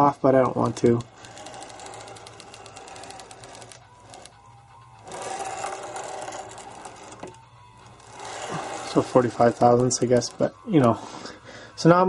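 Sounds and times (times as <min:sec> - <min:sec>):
machine carriage whirring: 0:00.0 - 0:11.1.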